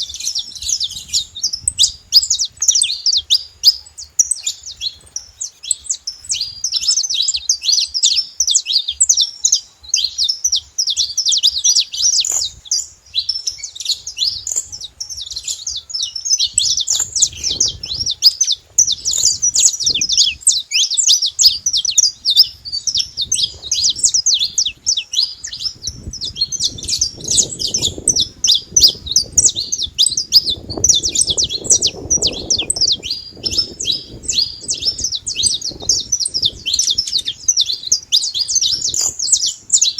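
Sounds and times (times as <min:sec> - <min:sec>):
finches singing: 0:00.0 - 0:39.9.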